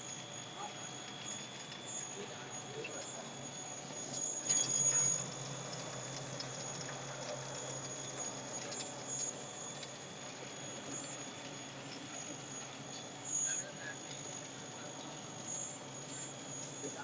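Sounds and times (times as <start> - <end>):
food extruder hum and whine: 0.0 - 17.0.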